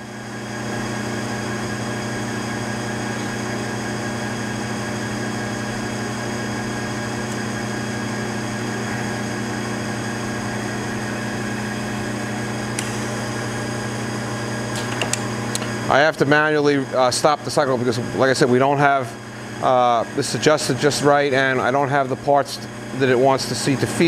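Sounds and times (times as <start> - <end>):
electric machine hum: 0.0 - 24.0.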